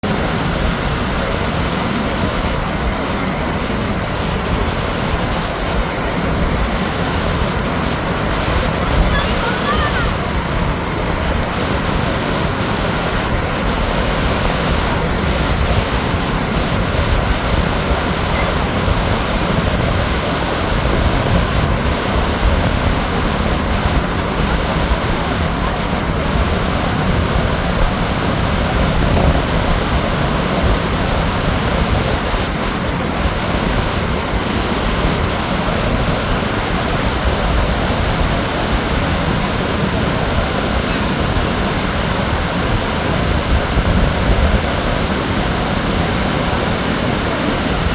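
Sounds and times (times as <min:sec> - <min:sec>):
strong wind on microphone: 0:00.0 - 0:47.9.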